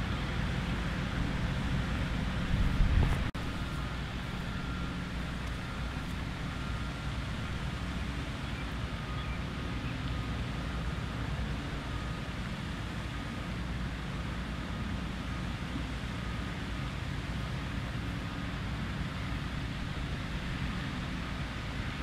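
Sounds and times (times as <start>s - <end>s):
low outdoor background rumble: 0.0s - 22.0s.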